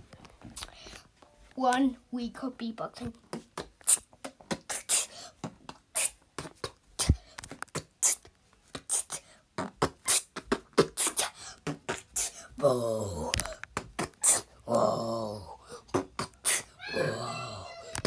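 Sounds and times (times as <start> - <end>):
beatboxing: 3.2 - 18.0.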